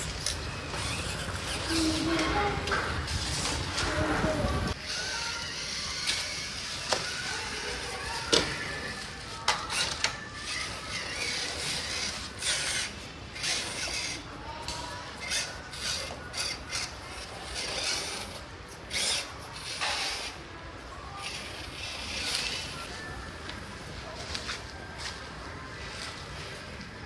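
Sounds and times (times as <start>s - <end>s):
toy car motor whirring: 0.0s - 23.6s.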